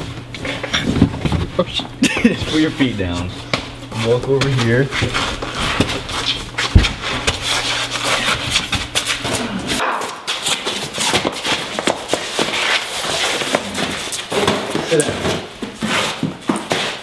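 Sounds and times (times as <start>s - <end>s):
shuffling footsteps: 0.0s - 17.0s.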